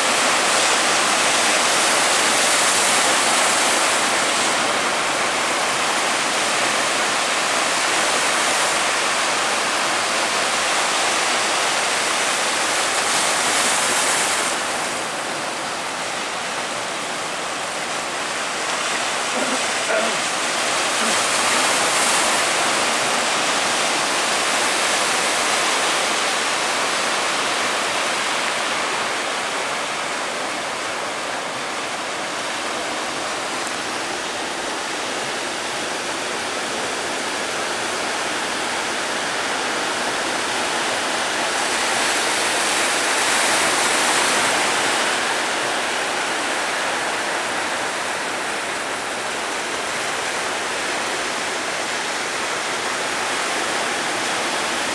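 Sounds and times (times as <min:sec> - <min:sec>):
sea waves breaking: 0:00.0 - 0:54.9.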